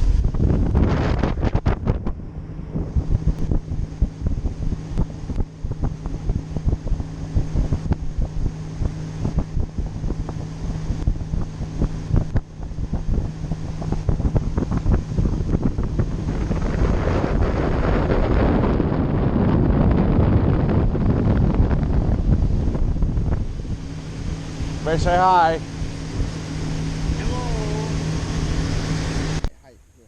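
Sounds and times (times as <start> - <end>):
wind buffeting microphone: 0.0 - 29.6
boat motor humming: 0.0 - 30.0.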